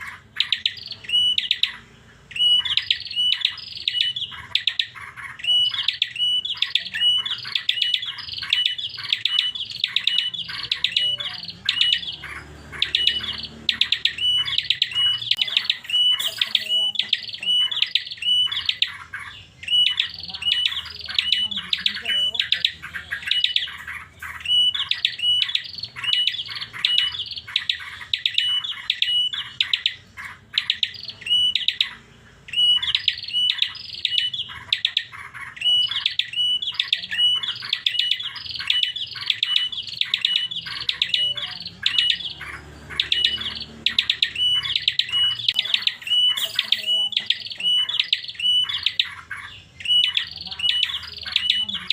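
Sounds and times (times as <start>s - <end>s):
bird chirping: 0.0s - 51.9s.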